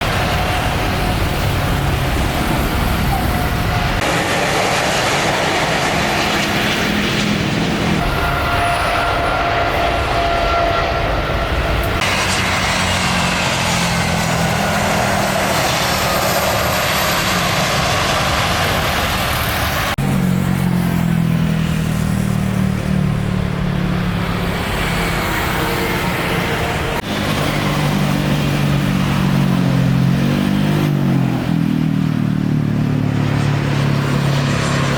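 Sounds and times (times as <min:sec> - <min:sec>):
aircraft engine noise: 0:00.0 - 0:34.9.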